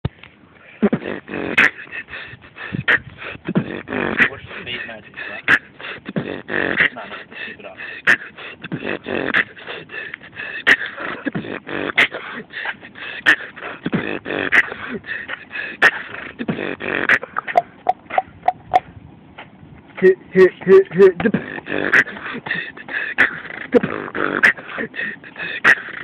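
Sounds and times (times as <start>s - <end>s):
beatboxing: 0.8s - 18.9s, 20.0s - 26.0s.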